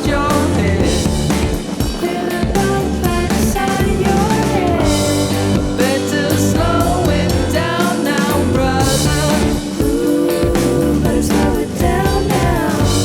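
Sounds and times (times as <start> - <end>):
drums: 0.0 - 13.0
electric guitar: 0.0 - 13.0
person singing: 0.0 - 13.0.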